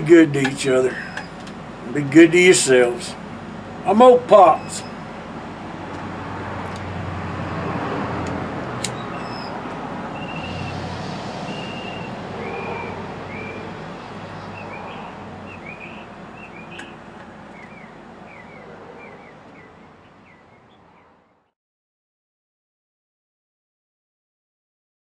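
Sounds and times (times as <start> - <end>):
birds chirping: 0.0 - 21.5
car passing: 0.0 - 21.5.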